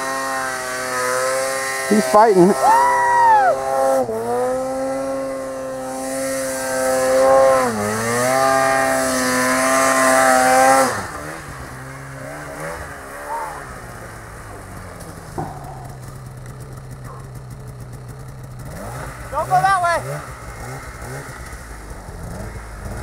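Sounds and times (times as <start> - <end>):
snowmobile engine at high revs: 0.0 - 23.0.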